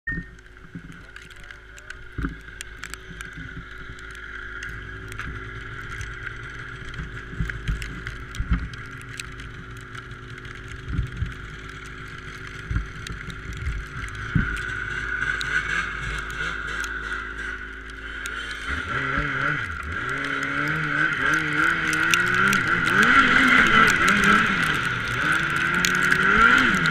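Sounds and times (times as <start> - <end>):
snowmobile engine idling: 0.5 - 26.9.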